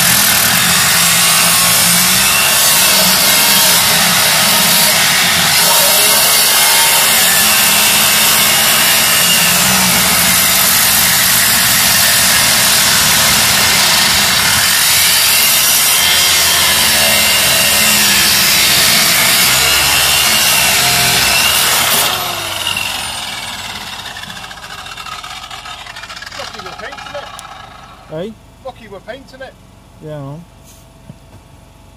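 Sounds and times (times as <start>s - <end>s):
grinder disc whining down: 0.0s - 28.1s
angle grinder cutting steel: 0.0s - 28.2s.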